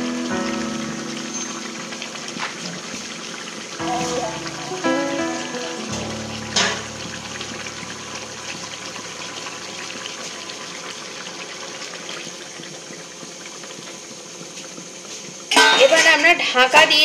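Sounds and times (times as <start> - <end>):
curry bubbling and sizzling: 0.0 - 17.0.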